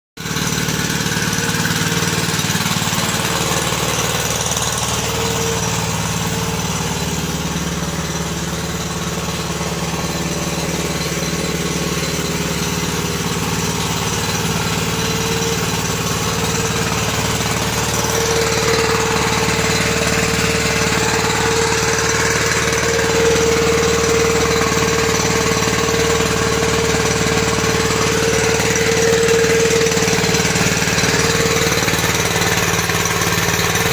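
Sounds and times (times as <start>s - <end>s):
engine running with constant hum: 0.2s - 33.9s.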